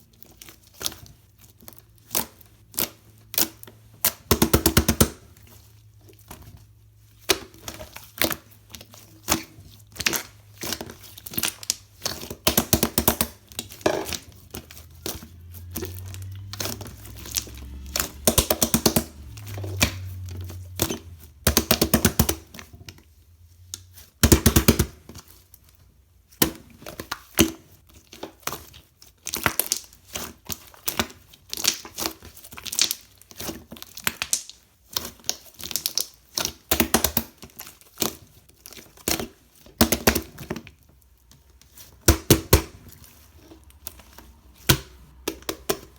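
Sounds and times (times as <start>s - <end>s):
slime squished by hand: 7.2s - 25.7s, 26.3s - 45.9s.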